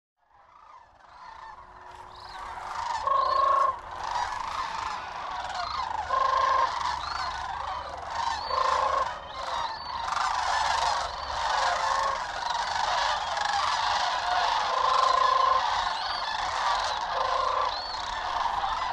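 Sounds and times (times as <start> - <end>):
flock of cranes calling: 0.2 - 18.9.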